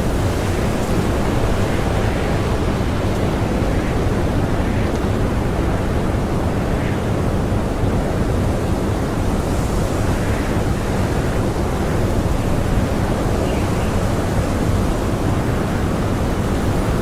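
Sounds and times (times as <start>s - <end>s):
strong blizzard wind: 0.0s - 17.0s.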